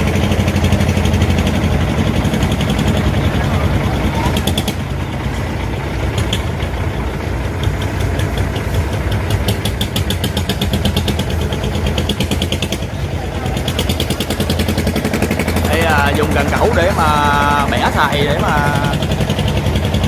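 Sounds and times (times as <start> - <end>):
fast ticking clatter: 0.0 - 20.0
truck engine running: 0.0 - 20.0.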